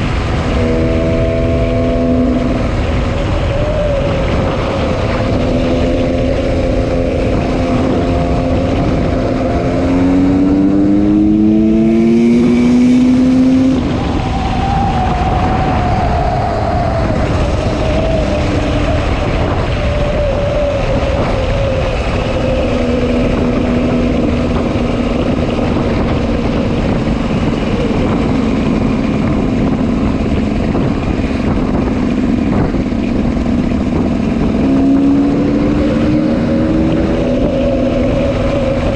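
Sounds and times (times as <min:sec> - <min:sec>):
two-stroke motorcycle engine: 0:00.0 - 0:14.9, 0:17.0 - 0:38.9.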